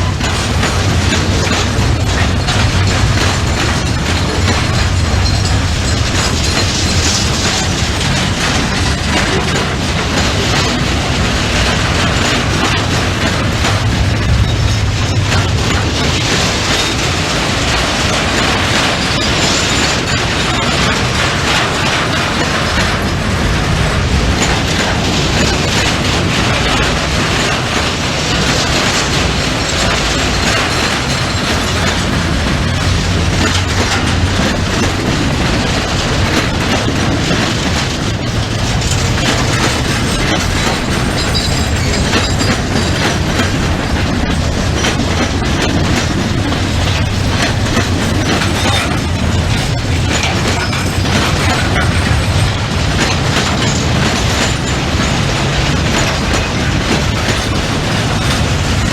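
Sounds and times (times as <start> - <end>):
freight train wheels on rails: 0.0 - 58.9.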